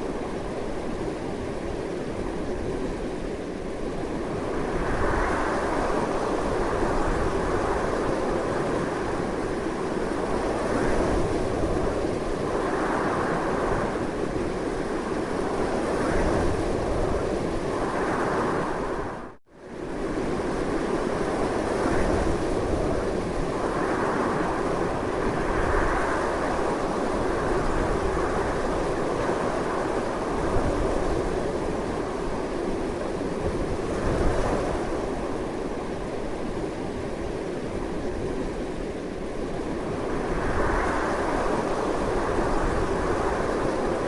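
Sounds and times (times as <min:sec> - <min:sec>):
strong gusty wind: 0:00.0 - 0:44.0.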